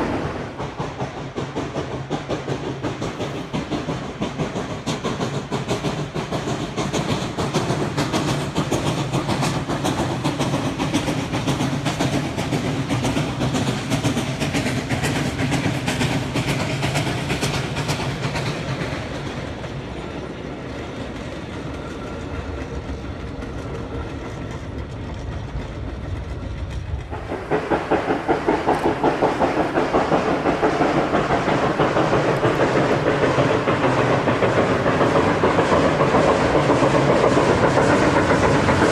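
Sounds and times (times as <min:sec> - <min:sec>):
pulsing train sound: 0:00.0 - 0:38.9
train wheels clicking on rail joints: 0:00.0 - 0:38.9.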